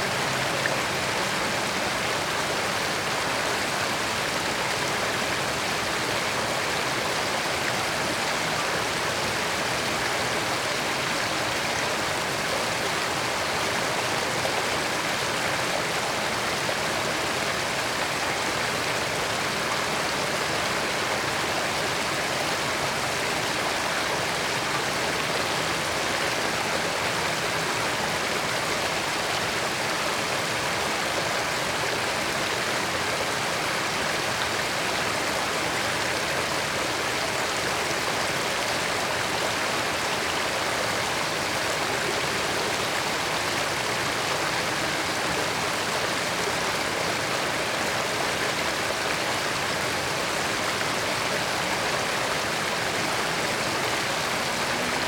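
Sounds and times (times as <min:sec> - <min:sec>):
creek water babbling over rocks: 0:00.0 - 0:55.0.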